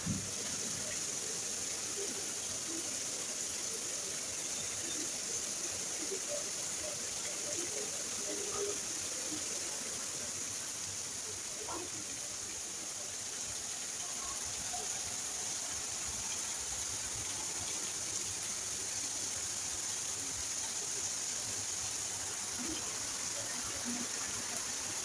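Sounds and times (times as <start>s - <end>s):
rain hissing: 0.0s - 25.0s
water running and splashing: 0.0s - 25.0s.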